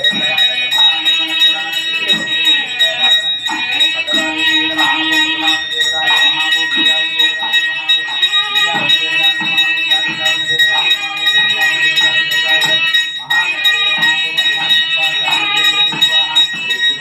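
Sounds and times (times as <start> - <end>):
hand bell ringing rapidly: 0.0 - 17.0
priest chanting prayers: 0.0 - 17.0.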